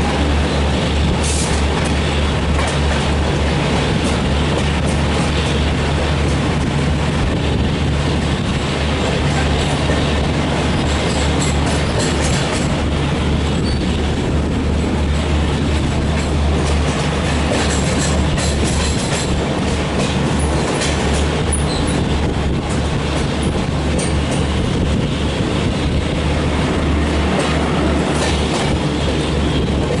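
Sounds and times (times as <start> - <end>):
train coaches rumbling on track: 0.0 - 30.0.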